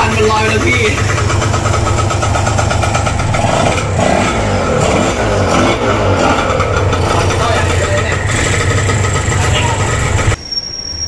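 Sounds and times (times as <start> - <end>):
two-stroke motorcycle engine running: 0.0 - 10.4.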